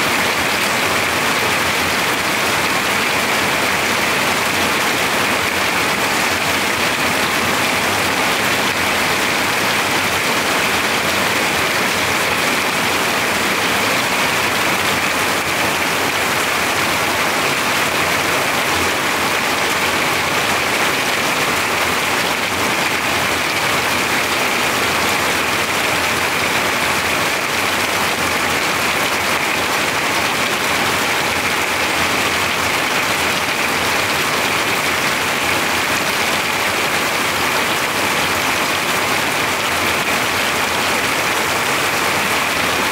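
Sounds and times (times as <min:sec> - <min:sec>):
heavy rain on a metal roof: 0:00.0 - 0:42.9.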